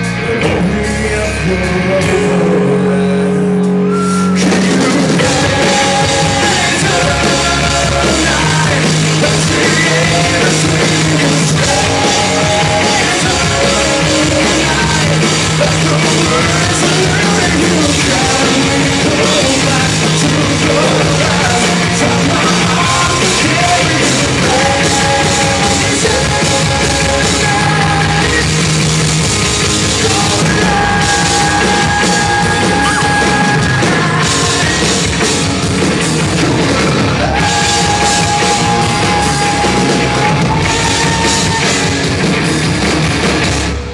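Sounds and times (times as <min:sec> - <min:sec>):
man singing: 0:00.0 - 0:28.7, 0:29.8 - 0:35.2, 0:36.6 - 0:41.9
live rock band playing: 0:00.0 - 0:43.9.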